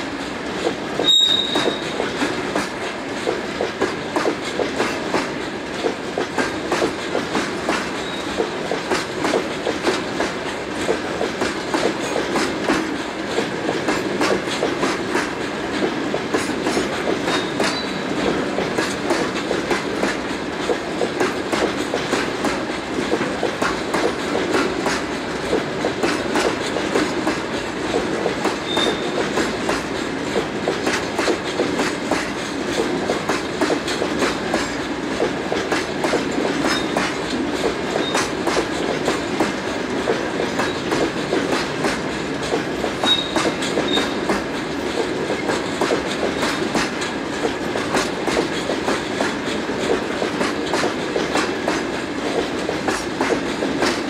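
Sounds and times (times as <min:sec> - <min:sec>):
train wheels clattering over rail joints: 0:00.0 - 0:54.0.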